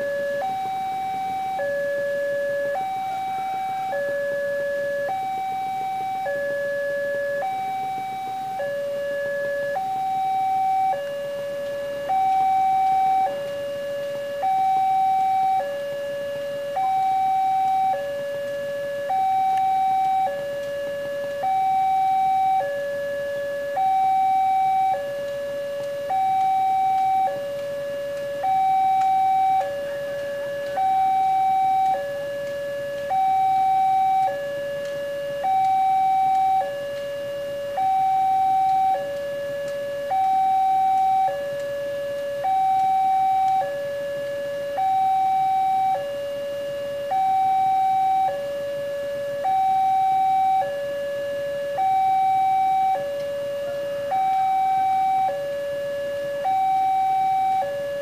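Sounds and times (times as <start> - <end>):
level-crossing two-tone alarm: 0.0 - 58.0.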